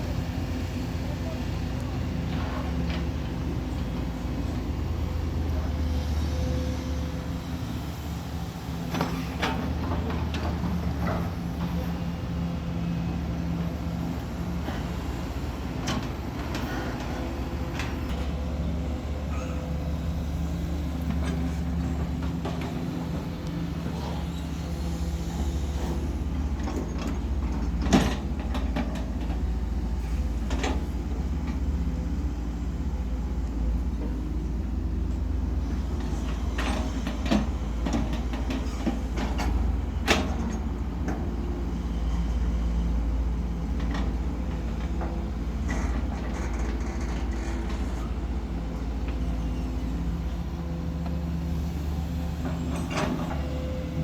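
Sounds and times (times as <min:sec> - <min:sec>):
road noise: 0:00.0 - 0:54.0
truck engine rumbling: 0:00.0 - 0:54.0.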